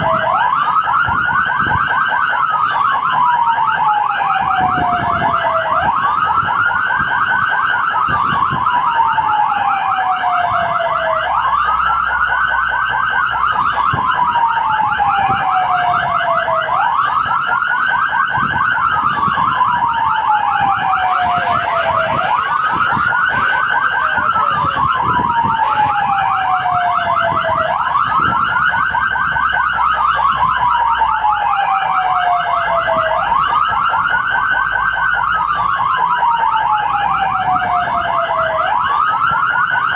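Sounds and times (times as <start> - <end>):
fast-pulsing siren tone: 0.0 - 39.9
fire engine siren wailing: 0.0 - 39.9.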